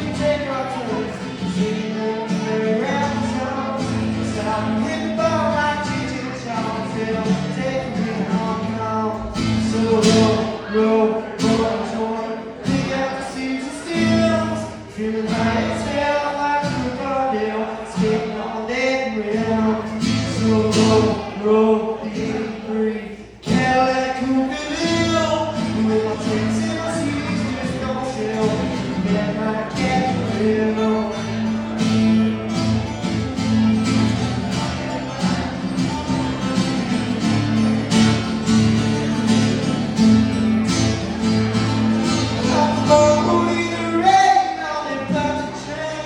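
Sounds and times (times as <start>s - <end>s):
strummed acoustic guitar: 0.0s - 46.0s.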